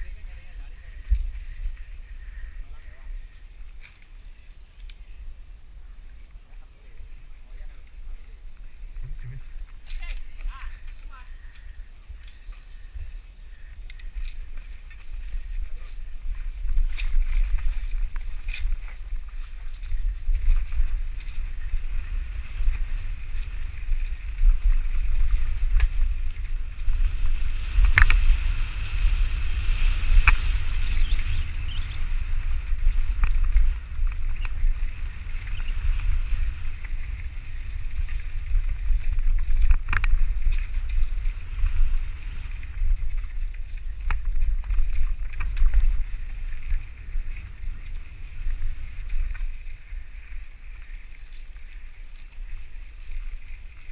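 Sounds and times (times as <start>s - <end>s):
wind rumbling on microphone: 0.0s - 53.9s
bike clicks and rattles: 3.2s - 5.4s, 7.7s - 53.9s.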